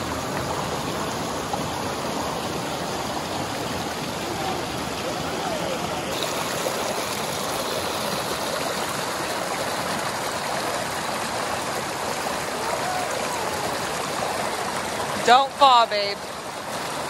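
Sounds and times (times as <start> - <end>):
water rushing over stones: 0.0 - 17.0.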